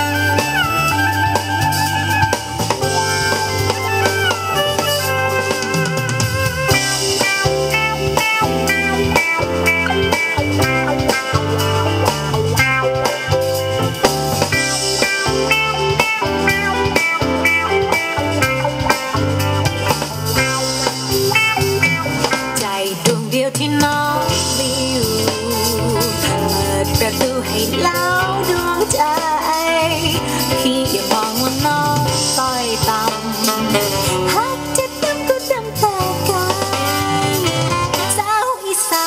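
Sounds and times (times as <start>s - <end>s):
pop song over loudspeakers: 0.0s - 39.0s.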